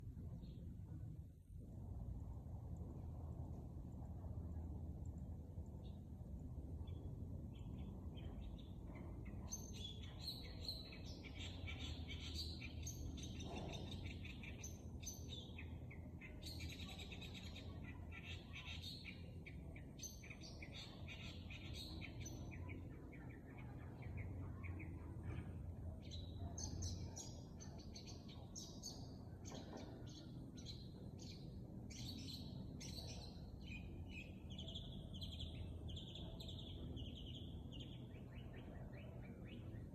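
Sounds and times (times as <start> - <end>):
low background rumble: 0.0 - 39.9
bird chirping and twittering: 6.8 - 25.1, 26.0 - 39.9.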